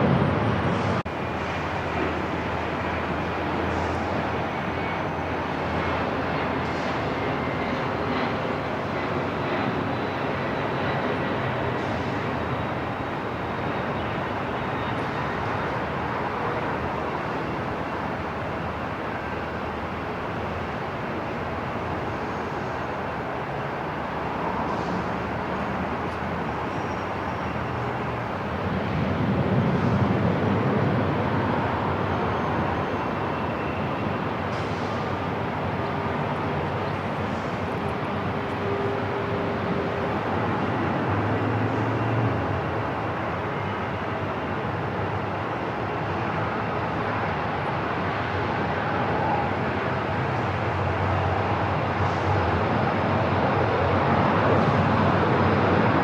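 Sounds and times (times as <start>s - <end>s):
airport background noise: 0.0s - 56.0s.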